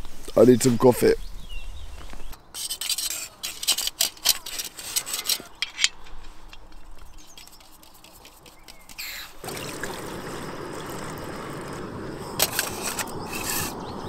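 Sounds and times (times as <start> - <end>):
cooking gear rustling and scraping: 1.8 - 14.0.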